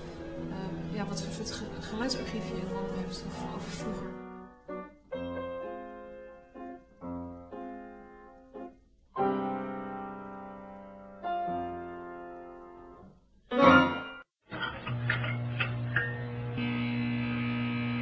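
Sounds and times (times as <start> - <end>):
slow piano music: 0.0 - 16.8.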